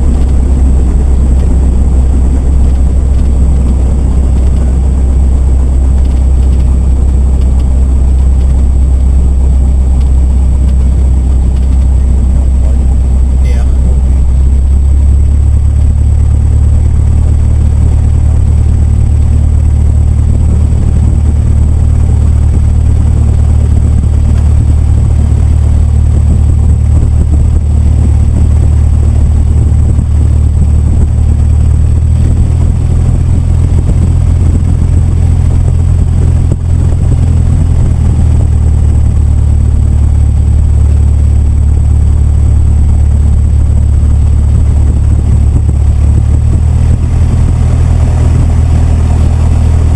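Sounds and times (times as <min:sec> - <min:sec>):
propeller plane engine droning: 0:00.0 - 0:49.9.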